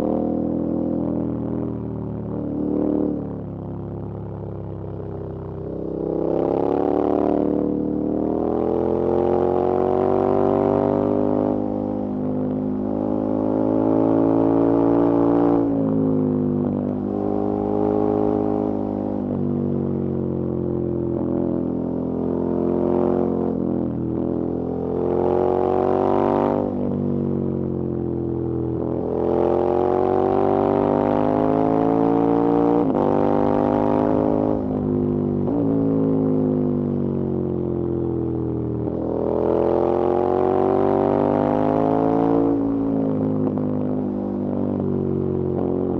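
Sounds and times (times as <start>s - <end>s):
motorcycle engine accelerating: 6.0s - 45.9s.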